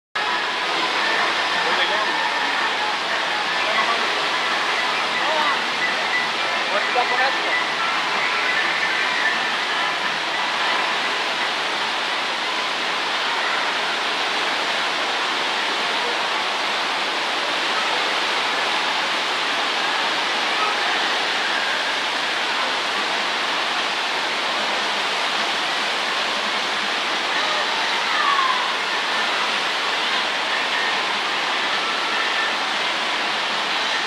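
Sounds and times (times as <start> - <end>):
rushing water hiss: 0.2 - 34.0.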